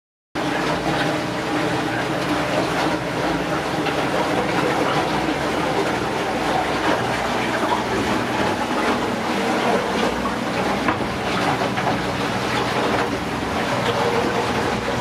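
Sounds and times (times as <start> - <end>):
boat motor hum: 0.4 - 15.0
water splashing along hull: 0.4 - 15.0.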